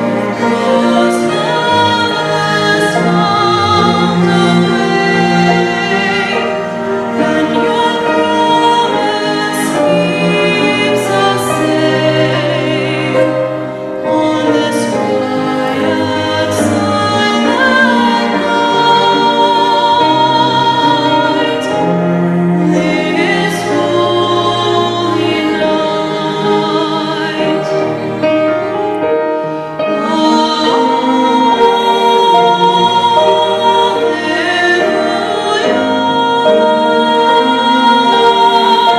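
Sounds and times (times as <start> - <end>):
classical singing with vibrato: 0.0 - 38.9
low instrumental accompaniment: 0.0 - 38.9.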